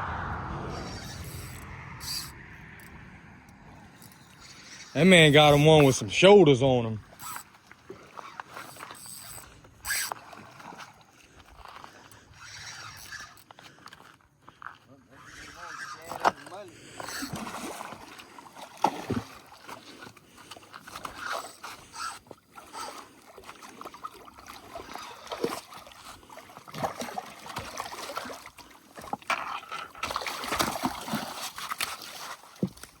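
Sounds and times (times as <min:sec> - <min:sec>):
water splashing around boat: 0:03.8 - 0:33.0.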